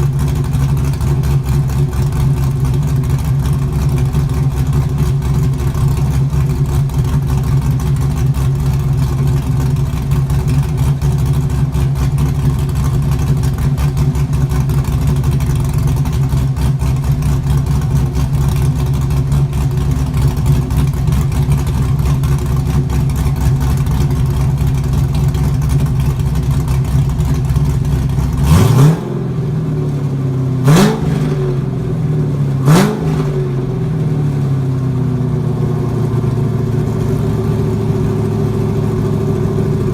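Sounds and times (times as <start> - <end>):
engine throttle blips: 0.0 - 39.9
loud engine idling: 0.0 - 39.9.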